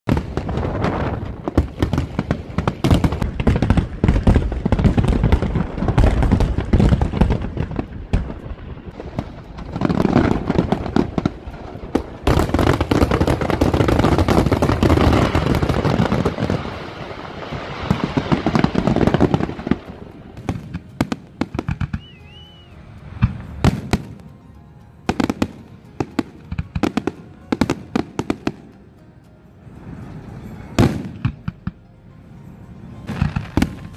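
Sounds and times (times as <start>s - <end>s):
fireworks bursting and crackling: 0.0s - 28.8s, 29.6s - 31.9s, 33.0s - 33.9s.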